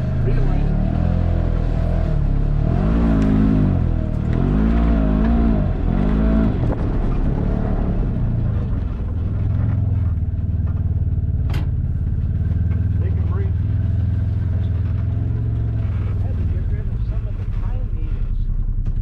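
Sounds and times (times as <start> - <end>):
utility vehicle engine revving: 0.0 - 19.0.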